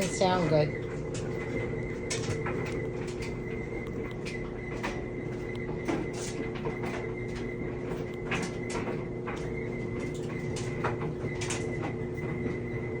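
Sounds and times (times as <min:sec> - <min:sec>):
clothes dryer humming: 0:00.0 - 0:13.0.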